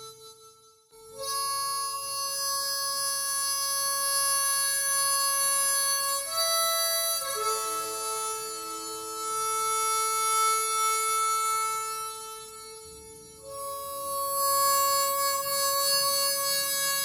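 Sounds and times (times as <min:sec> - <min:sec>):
instrumental music of held notes: 0:00.0 - 0:17.0.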